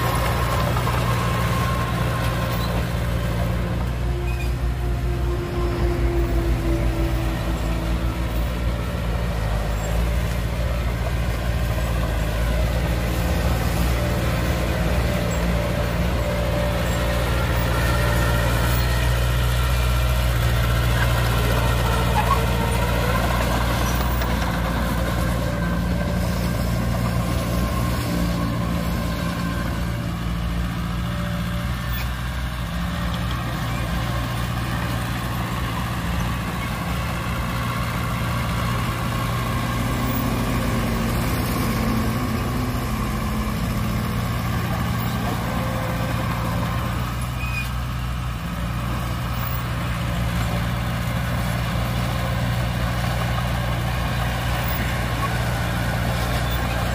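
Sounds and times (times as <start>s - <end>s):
bulldozer diesel engine under load: 0.0s - 56.9s.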